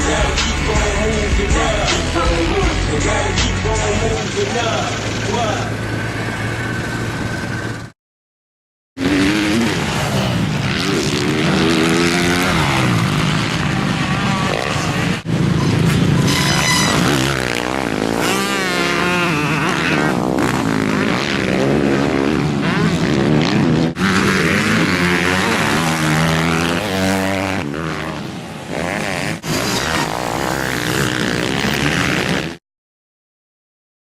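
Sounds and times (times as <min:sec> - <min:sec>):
dirt bike engines revving: 0:00.0 - 0:08.0, 0:09.0 - 0:32.6.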